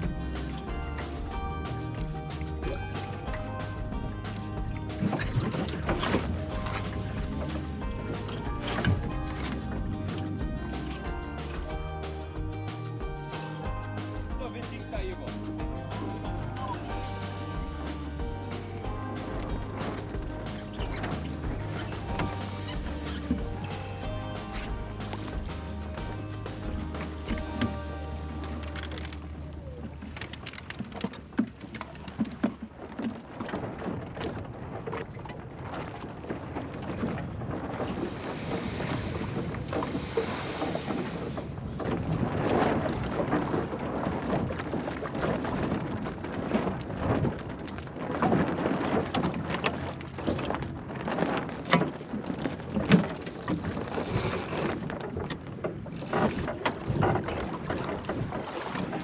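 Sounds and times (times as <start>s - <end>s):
water slapping against boat hull: 0.0s - 27.8s, 29.9s - 59.0s.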